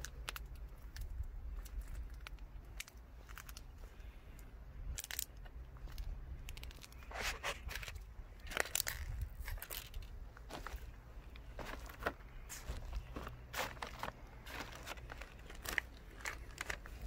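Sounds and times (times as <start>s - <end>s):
crunching and scraping: 0.0s - 17.0s.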